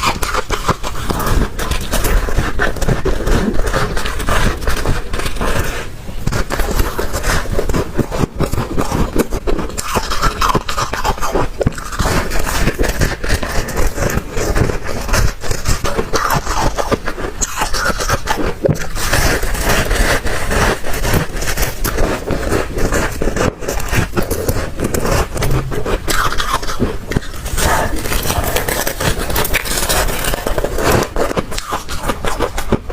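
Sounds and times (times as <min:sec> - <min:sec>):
chewing crunchy frost: 0:00.0 - 0:32.9.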